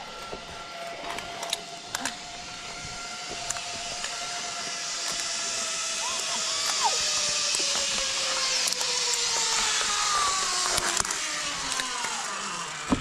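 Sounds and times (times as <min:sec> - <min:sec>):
pulley whine: 0:00.0 - 0:13.0
zip-line trolley rolling on cable: 0:00.0 - 0:13.0.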